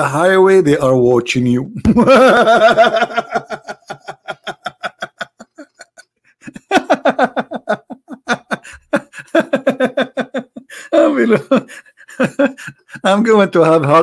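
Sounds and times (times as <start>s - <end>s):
man laughing: 1.8s - 14.0s.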